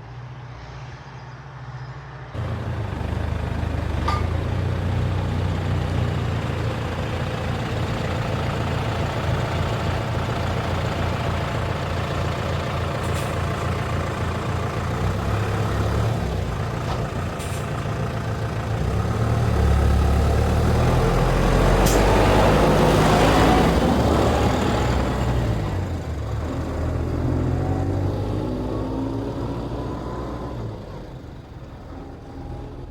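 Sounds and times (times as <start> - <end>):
diesel machinery engines running: 2.4 - 32.9.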